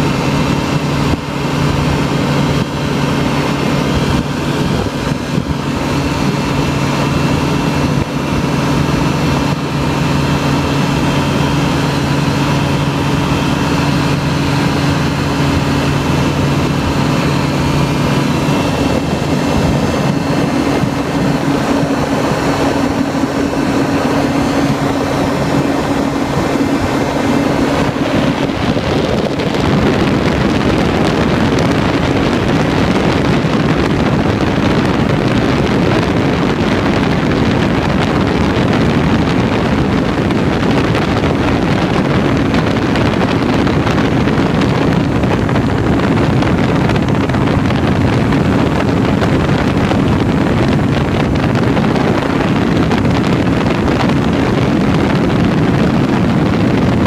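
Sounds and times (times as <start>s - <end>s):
ultralight aircraft engine droning: 0.0s - 57.0s
wind rushing over microphone: 0.0s - 57.0s.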